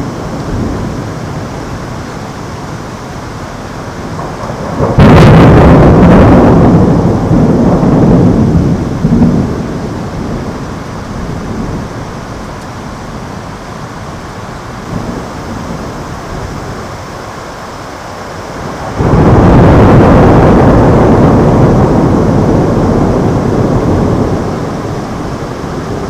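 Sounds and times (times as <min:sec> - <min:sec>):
thunder crack and rumble: 0:00.0 - 0:02.1, 0:03.9 - 0:17.0, 0:18.3 - 0:26.0
rain hissing: 0:00.0 - 0:26.0.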